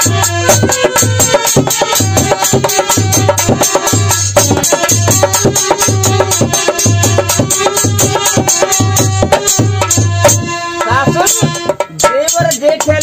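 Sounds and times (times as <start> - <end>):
drum playing fast beat: 0.0 - 13.0.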